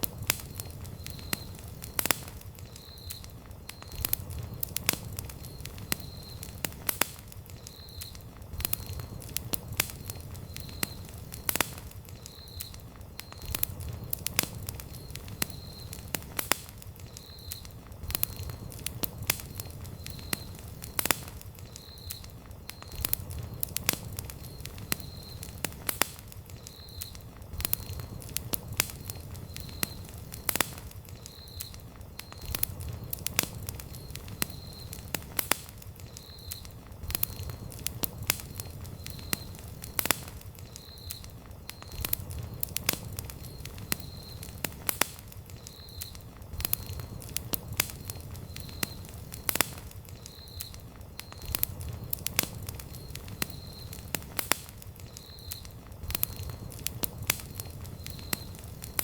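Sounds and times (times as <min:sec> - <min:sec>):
campfire crackles and pops: 0:00.0 - 0:59.0
low rumble of flame: 0:00.0 - 0:59.0.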